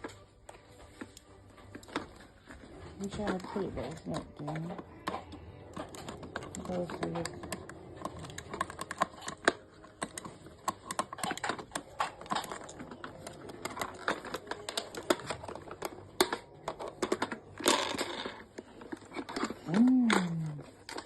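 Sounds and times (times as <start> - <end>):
batteries clicking into plastic compartment: 1.7 - 21.0.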